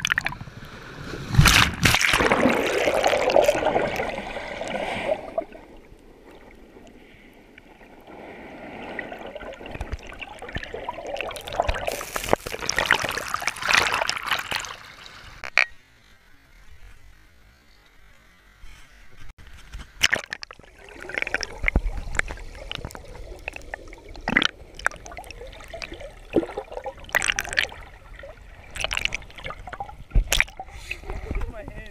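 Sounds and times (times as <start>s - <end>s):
sea water splashing: 0.0s - 15.4s, 20.0s - 31.8s.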